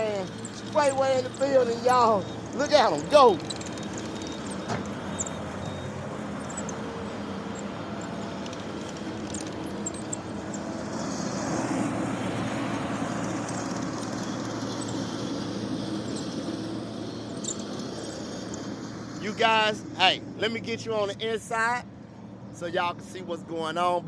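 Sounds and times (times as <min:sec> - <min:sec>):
skid steer engine running: 0:00.0 - 0:19.7.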